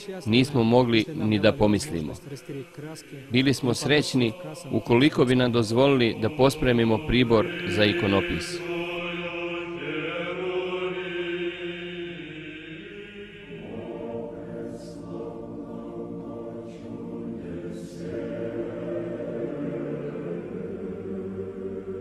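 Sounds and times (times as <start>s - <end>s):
male choir chanting: 0.0s - 22.0s.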